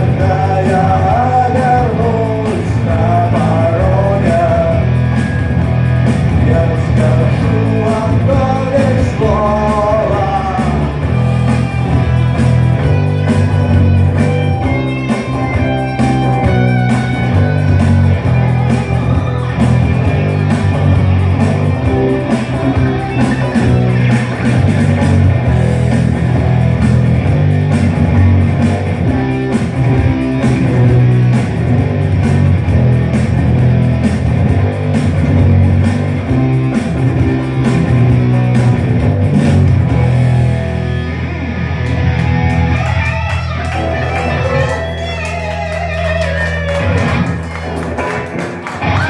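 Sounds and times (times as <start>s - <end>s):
rock guitars and bass: 0.0s - 49.0s.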